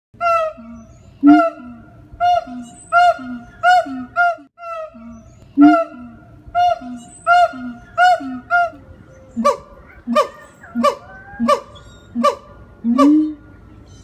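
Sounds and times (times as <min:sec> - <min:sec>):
ape hooting calls: 0:00.2 - 0:13.8.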